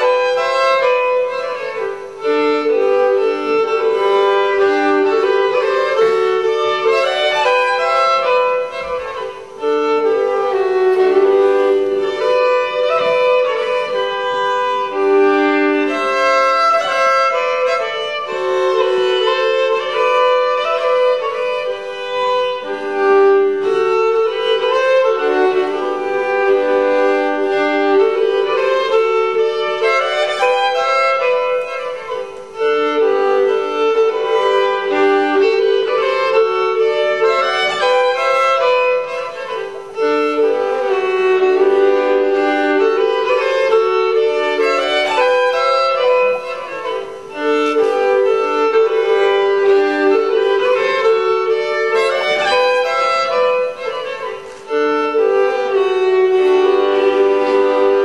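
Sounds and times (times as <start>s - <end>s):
two fiddles playing folk march: 0.0s - 58.0s.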